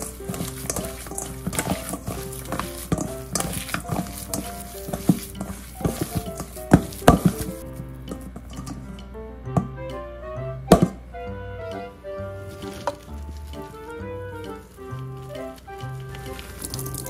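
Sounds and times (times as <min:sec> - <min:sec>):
hand squishing meat: 0:00.0 - 0:09.0, 0:12.2 - 0:17.0
background music: 0:00.0 - 0:17.0.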